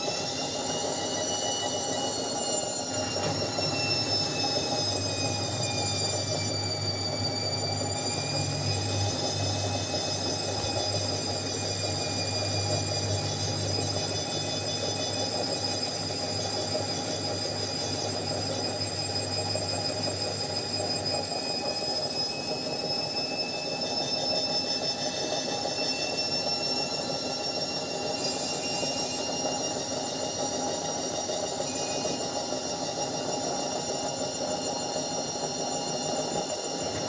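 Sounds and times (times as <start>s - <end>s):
washing machine motor whining: 0.0s - 37.0s.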